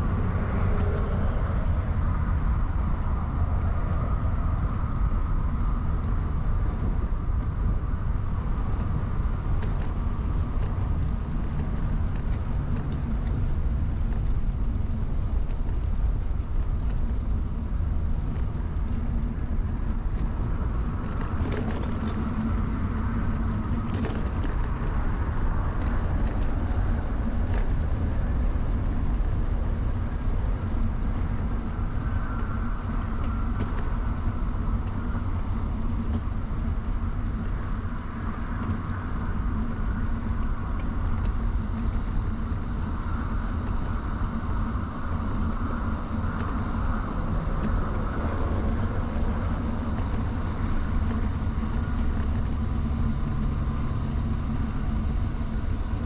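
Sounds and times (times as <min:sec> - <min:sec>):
wind and rolling tyres: 0:00.0 - 0:56.0.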